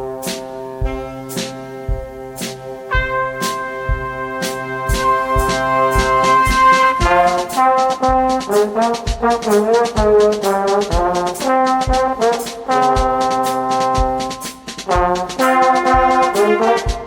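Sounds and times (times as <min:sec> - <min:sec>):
brass ensemble music: 0:00.0 - 0:17.0
low beat: 0:00.0 - 0:17.0.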